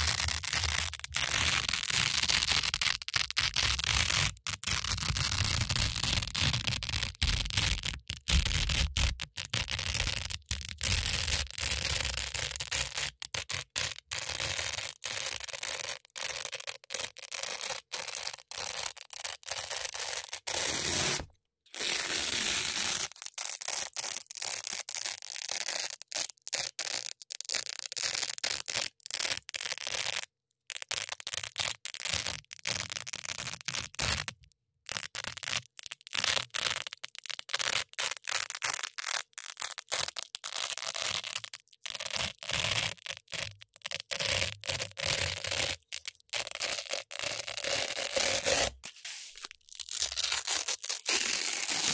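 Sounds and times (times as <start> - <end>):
velcro strips scratching: 0.0 - 51.9.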